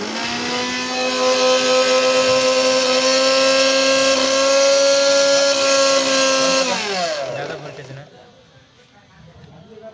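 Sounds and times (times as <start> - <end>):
mixer grinder motor whining: 0.0 - 8.1.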